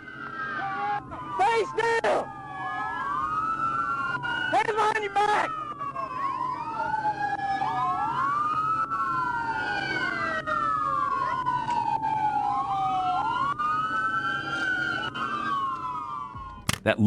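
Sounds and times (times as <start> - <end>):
police sirens wailing: 0.1 - 16.3.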